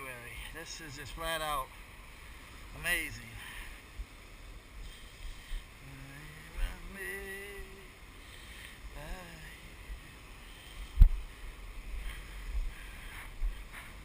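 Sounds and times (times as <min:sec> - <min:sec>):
surf on rocks: 0:00.0 - 0:14.0
wind: 0:00.0 - 0:14.0.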